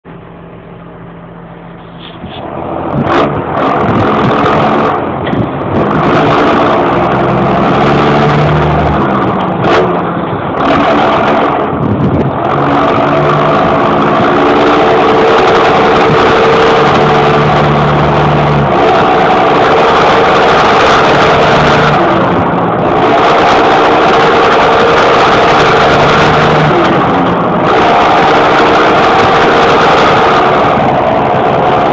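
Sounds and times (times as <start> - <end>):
tractor diesel engine revving: 0.0 - 31.9.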